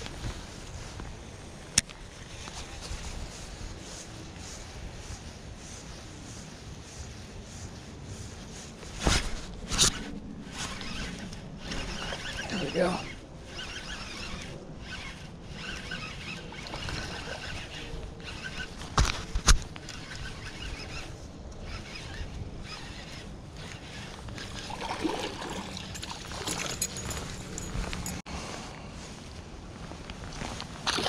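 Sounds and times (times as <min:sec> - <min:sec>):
fishing tackle rustling: 0:00.0 - 0:28.7.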